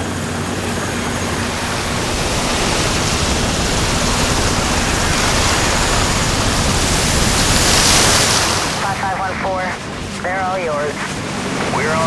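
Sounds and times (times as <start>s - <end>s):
helicopter rotor downwash rushing: 0.0s - 12.0s.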